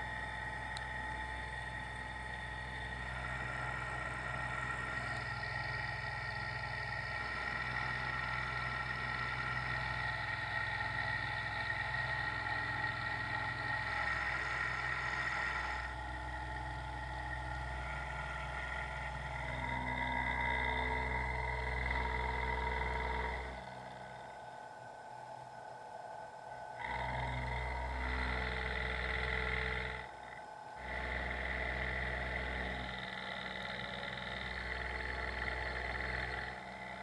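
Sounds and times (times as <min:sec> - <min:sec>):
machine tool humming and whining: 0:00.0 - 0:37.0.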